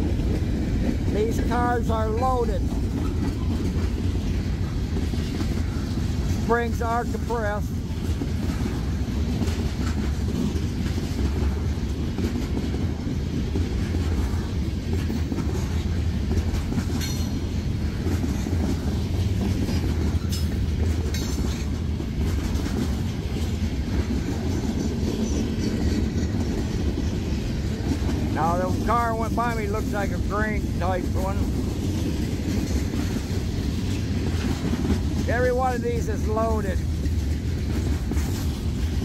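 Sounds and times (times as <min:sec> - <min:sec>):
freight train wheels rumbling on rail: 0:00.0 - 0:39.0
wheels clacking over rail joints: 0:00.0 - 0:39.0.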